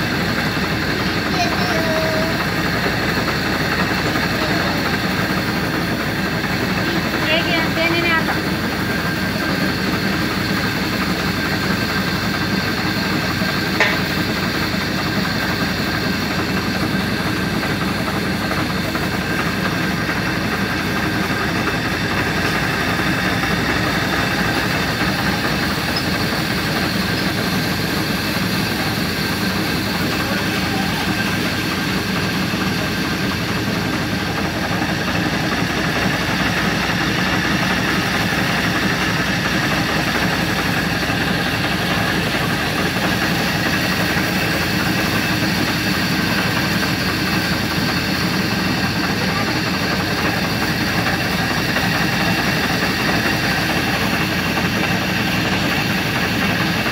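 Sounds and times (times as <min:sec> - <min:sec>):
mechanical drone: 0:00.0 - 0:56.9.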